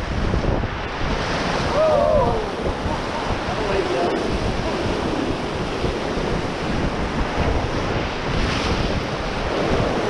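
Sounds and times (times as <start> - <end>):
wind buffeting microphone: 0.0 - 10.0
whitewater rapids rushing: 0.9 - 10.0.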